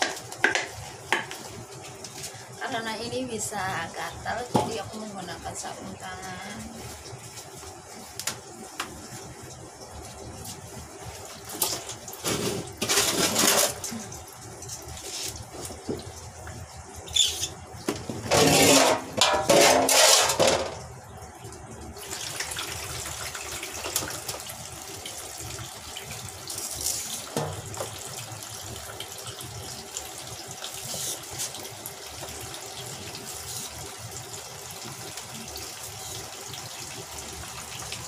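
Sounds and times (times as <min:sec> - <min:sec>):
water running from hose: 0:00.0 - 0:20.8, 0:21.5 - 0:38.0.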